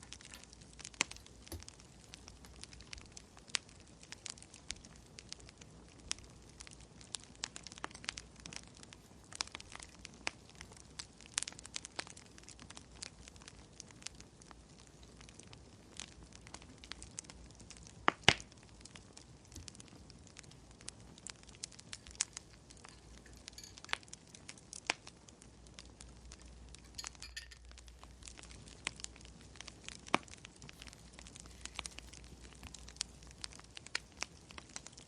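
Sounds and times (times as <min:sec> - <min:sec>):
faint steady hiss: 0:00.0 - 0:35.0
wood fire crackling: 0:00.0 - 0:35.0.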